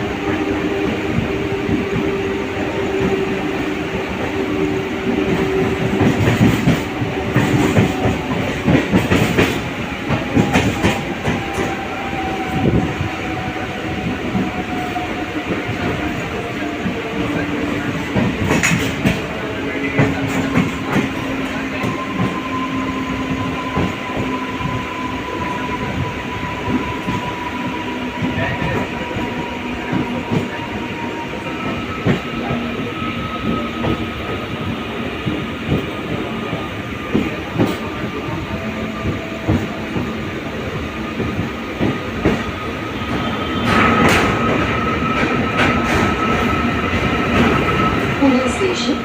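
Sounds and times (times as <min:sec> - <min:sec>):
train rumbling: 0:00.0 - 0:49.0.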